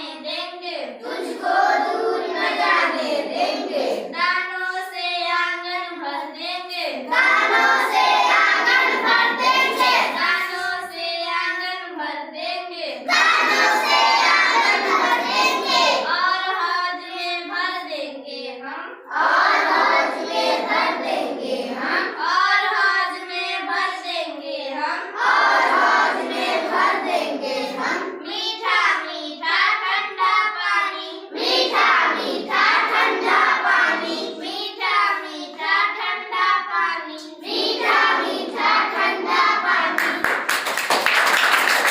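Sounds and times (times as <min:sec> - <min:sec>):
child singing: 0:00.0 - 0:40.2.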